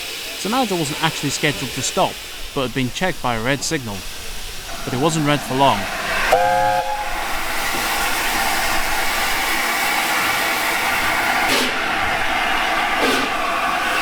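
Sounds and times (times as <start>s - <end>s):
locomotive exhaust beat: 0.0s - 14.0s
steam hissing: 0.0s - 14.0s
steam locomotive chime whistle: 0.2s - 13.2s.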